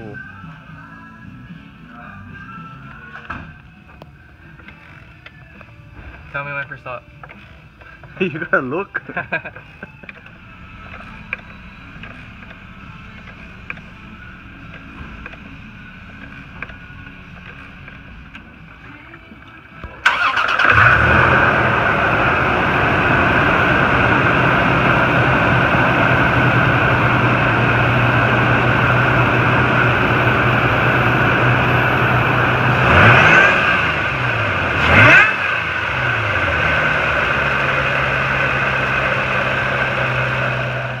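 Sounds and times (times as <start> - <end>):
truck engine idling and revving: 0.0 - 41.0.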